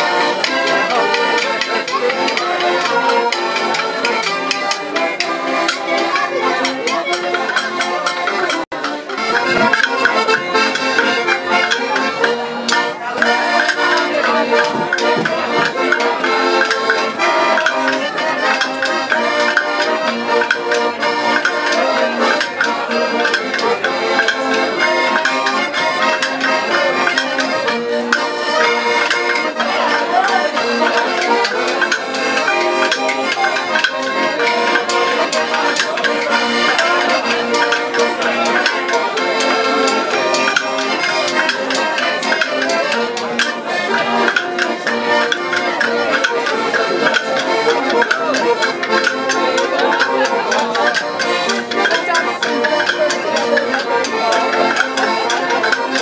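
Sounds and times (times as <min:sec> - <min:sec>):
accordions playing folk tune: 0:00.0 - 0:56.0.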